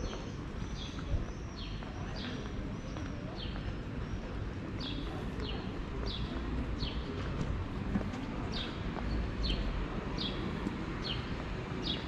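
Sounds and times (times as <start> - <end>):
low outdoor background noise: 0.0 - 12.0.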